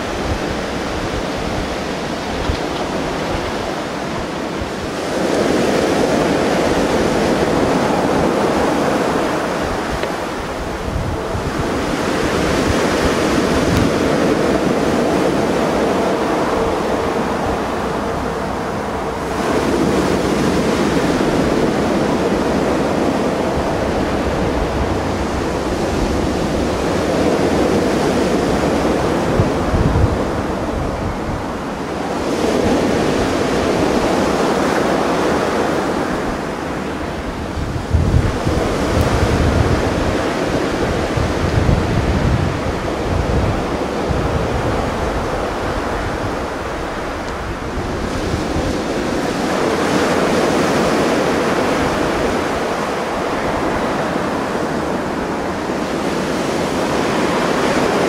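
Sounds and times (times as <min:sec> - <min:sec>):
sea waves washing ashore: 0:00.0 - 0:58.0
wind buffeting microphone: 0:00.0 - 0:58.0.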